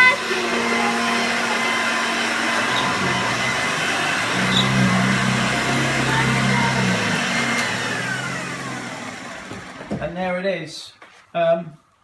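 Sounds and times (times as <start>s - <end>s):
vacuum cleaner running: 0.0s - 10.1s.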